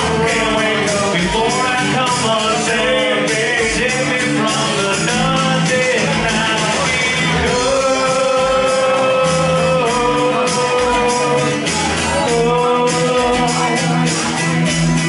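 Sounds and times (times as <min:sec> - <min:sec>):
man singing into microphone: 0:00.0 - 0:15.0
strummed acoustic guitar: 0:00.0 - 0:15.0.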